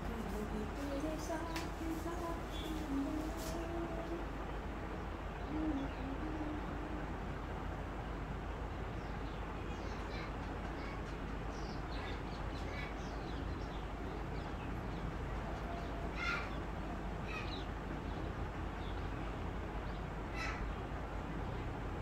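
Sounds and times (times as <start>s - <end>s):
birds calling: 0.0s - 21.8s
steady background noise: 0.0s - 22.0s.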